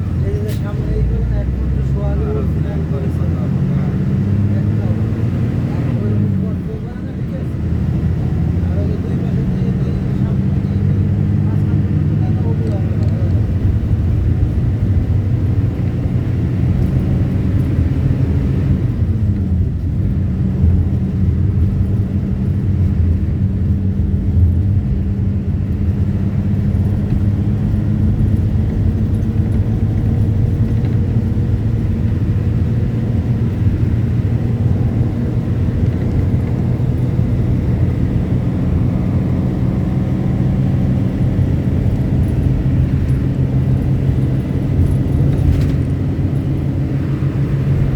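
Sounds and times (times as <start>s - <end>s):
vehicle engine low rumble: 0.0s - 47.9s.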